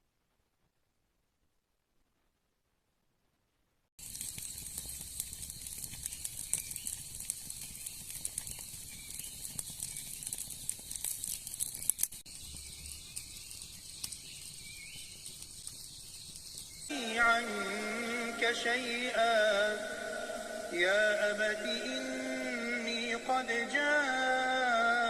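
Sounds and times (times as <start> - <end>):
rain pattering: 4.0 - 24.2.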